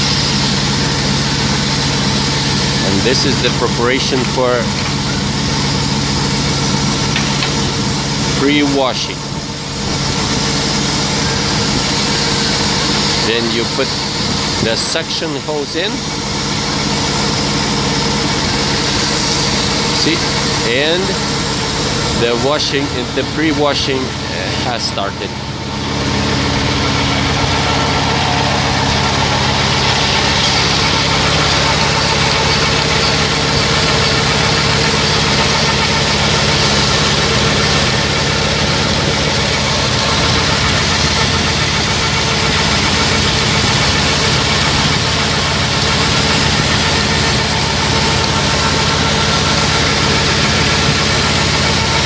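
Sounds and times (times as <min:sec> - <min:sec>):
vacuum pump hum: 0:00.0 - 0:52.0
water and air hissing through lines: 0:00.0 - 0:52.0.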